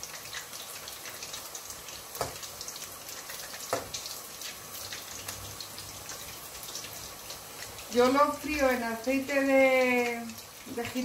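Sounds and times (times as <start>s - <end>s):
chicken frying in oil: 0.0s - 11.0s.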